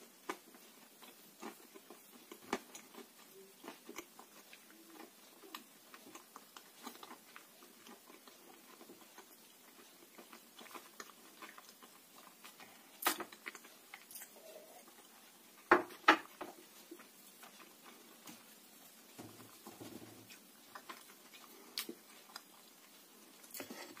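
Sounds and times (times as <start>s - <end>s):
person chewing close up: 0.0s - 24.0s.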